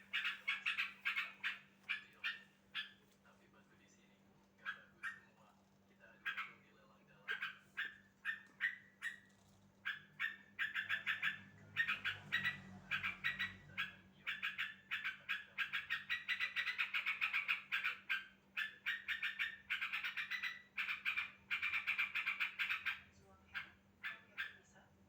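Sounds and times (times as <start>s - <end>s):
bird chattering calls: 0.0s - 3.0s, 6.2s - 24.6s.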